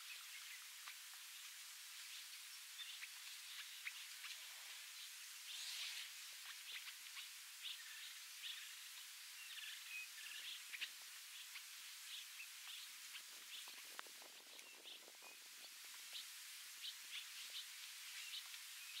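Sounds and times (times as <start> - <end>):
small birds chirping: 0.0 - 19.0
soft crackling and rustling: 0.0 - 19.0.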